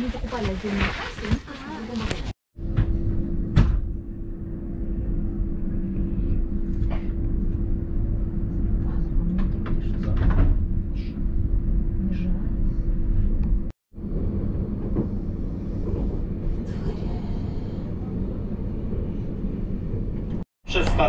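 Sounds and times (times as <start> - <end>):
train carriage rumble: 0.0 - 21.0.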